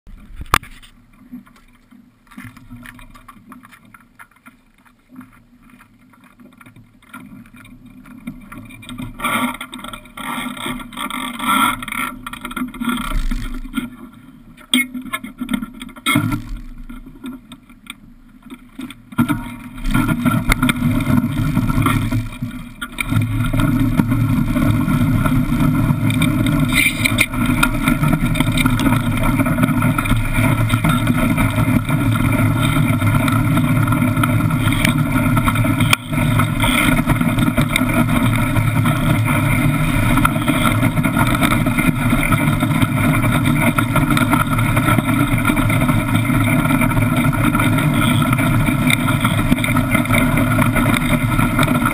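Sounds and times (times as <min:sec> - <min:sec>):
iceboat runners scraping over ice: 0:04.8 - 0:17.7, 0:18.6 - 0:51.9.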